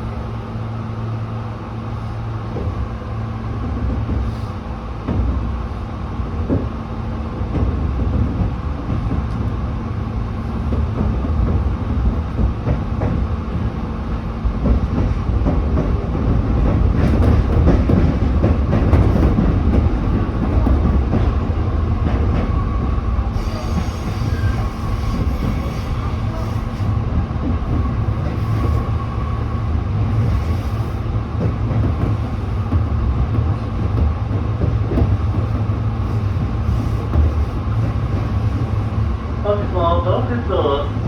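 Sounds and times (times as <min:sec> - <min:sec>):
wheels rumbling on rails: 0:00.0 - 0:41.0.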